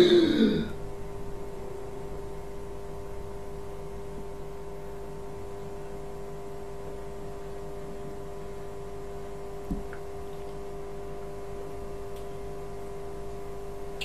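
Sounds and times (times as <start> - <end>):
steady hum with higher tones: 0.0 - 14.0.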